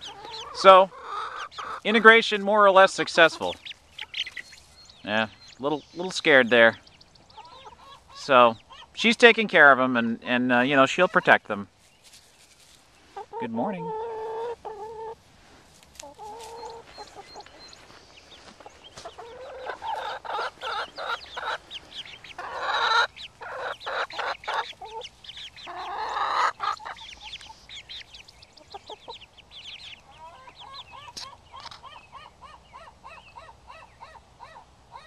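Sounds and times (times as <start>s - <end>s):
chicks peeping: 0.0s - 35.0s
hens clucking and squawking: 0.0s - 35.0s.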